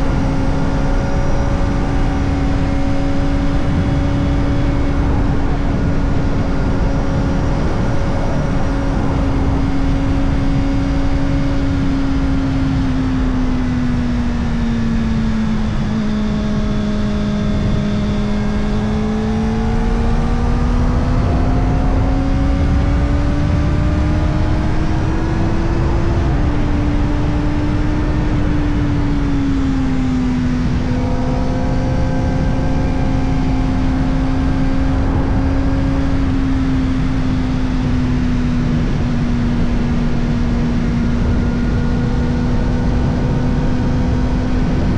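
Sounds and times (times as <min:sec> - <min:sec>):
motorcycle engine at mid revs: 0:00.0 - 0:44.9
wind and road rush: 0:00.0 - 0:44.9.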